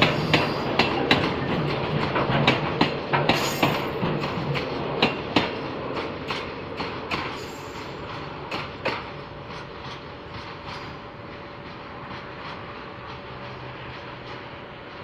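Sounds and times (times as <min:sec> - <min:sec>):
train wheels clacking on rails: 0:00.0 - 0:15.0.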